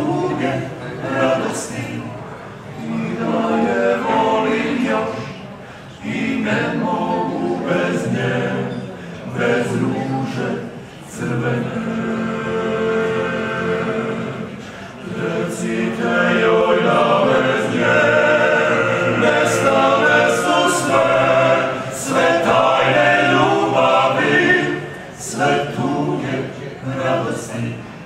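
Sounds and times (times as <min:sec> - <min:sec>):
male vocal group singing a cappella: 0:00.0 - 0:28.0.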